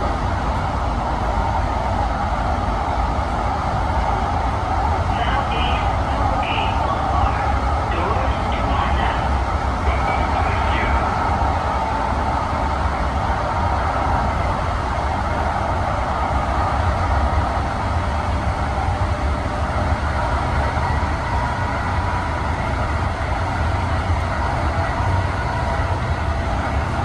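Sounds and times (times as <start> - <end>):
rail car low rumble: 0.0 - 27.0.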